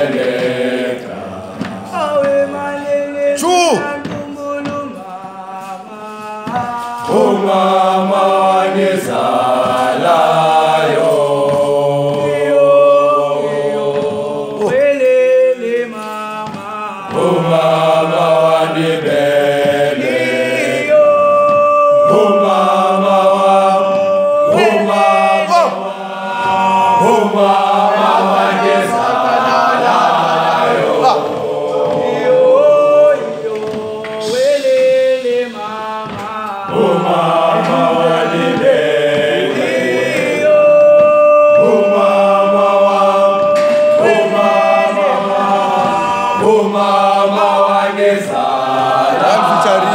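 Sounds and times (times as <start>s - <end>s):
students singing in harmony: 0.0s - 49.9s.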